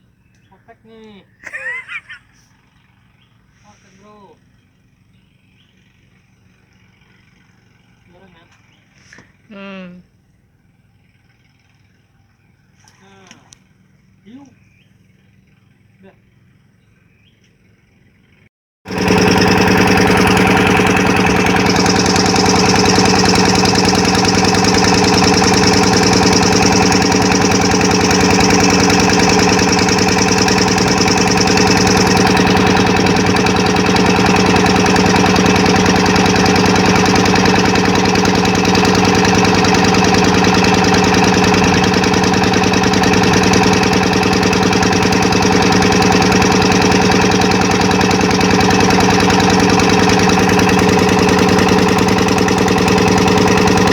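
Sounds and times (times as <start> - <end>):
engine droning hum: 0.0 - 53.9.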